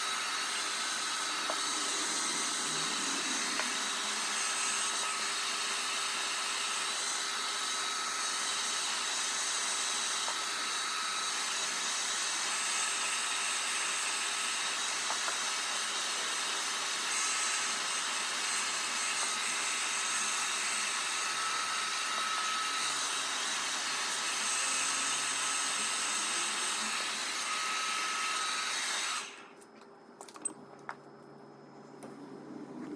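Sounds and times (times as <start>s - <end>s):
hair dryer running: 0.0s - 29.5s.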